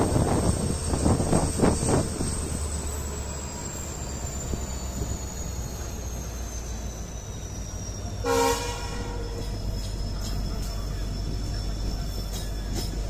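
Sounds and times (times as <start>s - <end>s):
diesel train engine humming: 0.0s - 13.0s.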